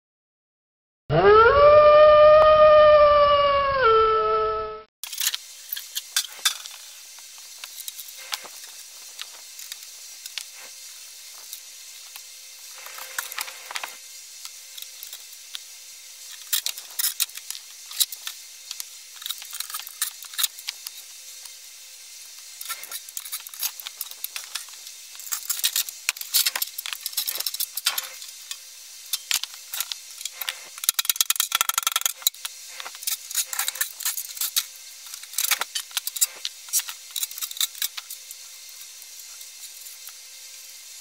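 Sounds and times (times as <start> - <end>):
steady hiss: 5.1 - 41.0.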